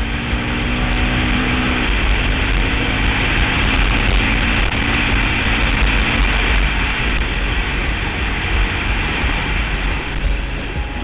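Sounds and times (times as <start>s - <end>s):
atv engine running: 0.0s - 11.0s
wind rumbling on microphone: 0.0s - 11.0s.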